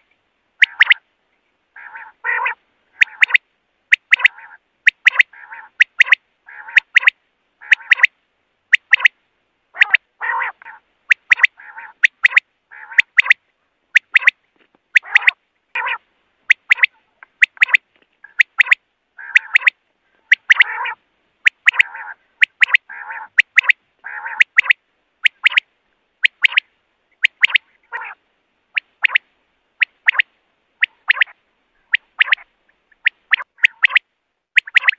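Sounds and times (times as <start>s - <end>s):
quail calling: 0.0s - 1.0s, 1.7s - 34.9s.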